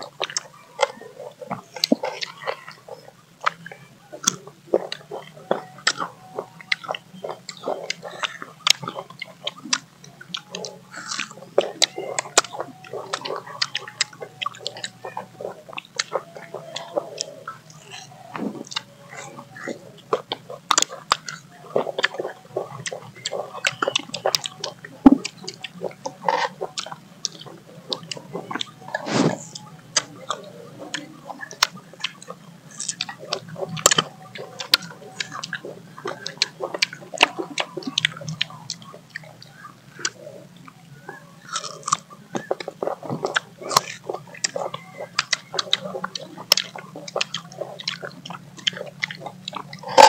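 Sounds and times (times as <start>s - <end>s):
people chewing fruit: 0.0s - 50.0s.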